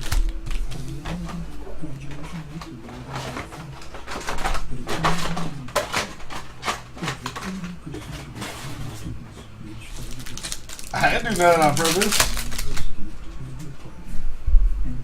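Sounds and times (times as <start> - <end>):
plastic wrappers crinkling: 0.0 - 9.0, 9.8 - 13.0.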